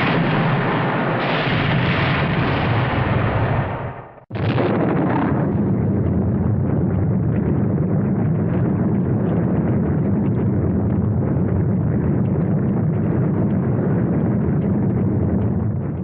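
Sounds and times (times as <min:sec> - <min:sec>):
loud crackling low rumble: 0:00.0 - 0:16.0.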